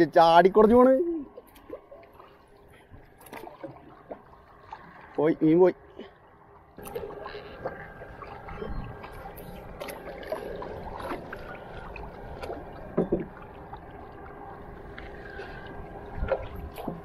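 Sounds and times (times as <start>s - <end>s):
paddle splashing in water: 1.4s - 5.2s, 6.8s - 17.0s.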